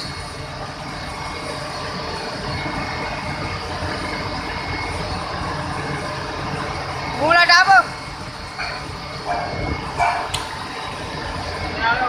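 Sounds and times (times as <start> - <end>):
machinery rumble: 0.0 - 12.0.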